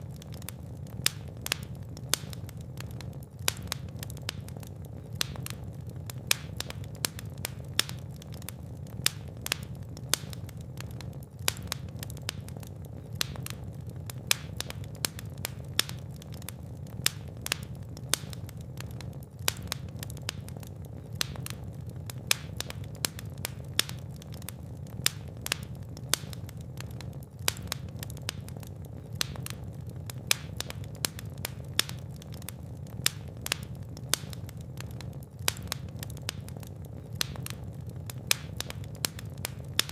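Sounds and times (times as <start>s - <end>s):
fire crackling and popping: 0.0s - 39.9s
fire rumbling in fireplace: 0.0s - 39.9s.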